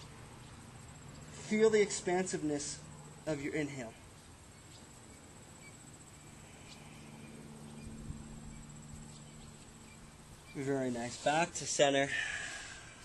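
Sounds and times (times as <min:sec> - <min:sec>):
crickets droning: 0:00.0 - 0:13.0
faint low hum: 0:00.0 - 0:13.0.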